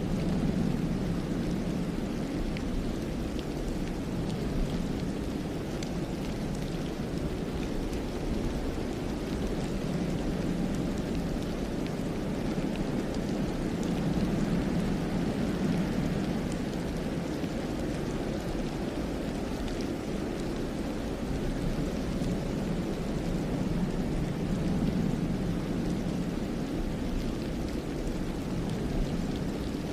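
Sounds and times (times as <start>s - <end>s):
wind rushing through forest: 0.0s - 29.9s.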